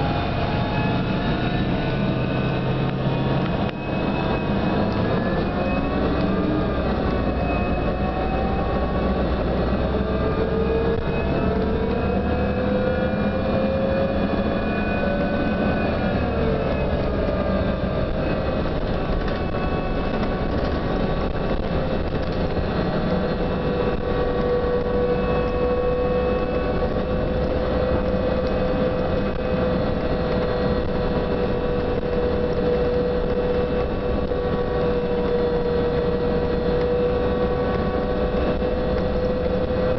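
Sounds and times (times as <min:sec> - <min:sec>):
bus drive whine: 0:00.0 - 0:39.9
engine and road rumble: 0:00.0 - 0:39.9.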